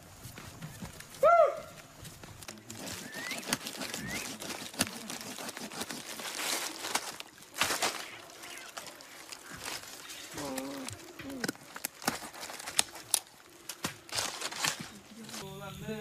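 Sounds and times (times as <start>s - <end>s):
dry leaves rustling: 0.0s - 15.5s.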